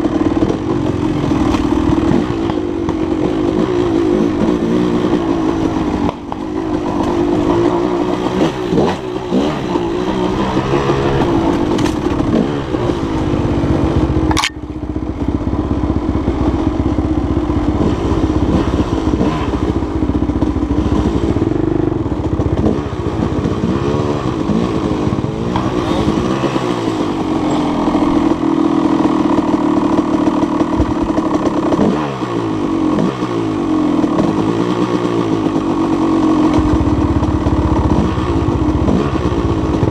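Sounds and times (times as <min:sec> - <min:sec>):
dirt bike engine revving: 0:00.0 - 0:15.2, 0:17.4 - 0:39.9.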